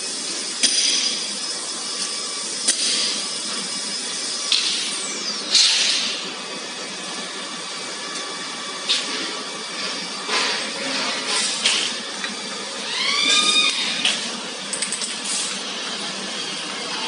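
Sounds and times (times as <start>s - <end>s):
machinery hum with whining: 0.0s - 17.0s.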